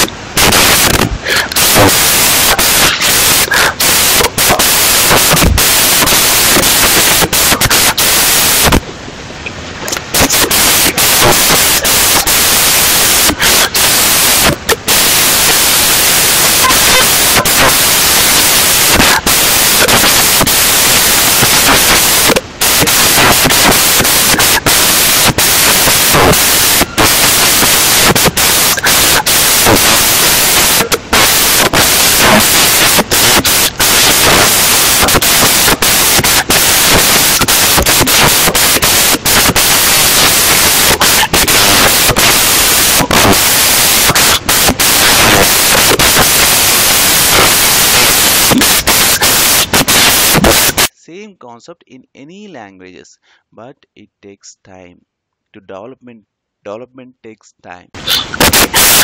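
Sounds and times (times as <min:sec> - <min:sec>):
loud static hiss: 0:00.0 - 0:55.0, 0:55.6 - 0:59.0.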